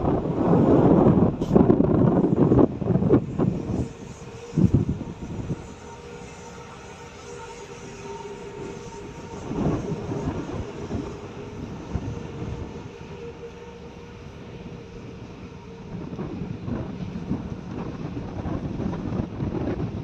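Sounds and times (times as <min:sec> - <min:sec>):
ship engine droning: 0:00.0 - 0:20.0
wind rumbling on microphone: 0:00.0 - 0:20.0.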